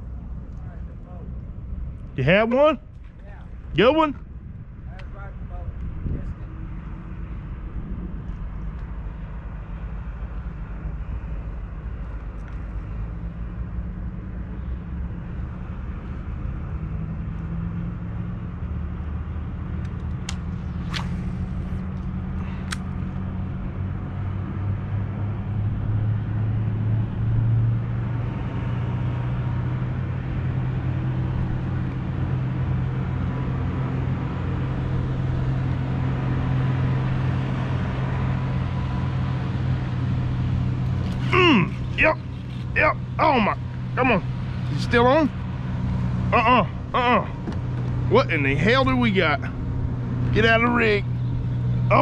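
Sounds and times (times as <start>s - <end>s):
low motor drone: 0.0s - 52.0s.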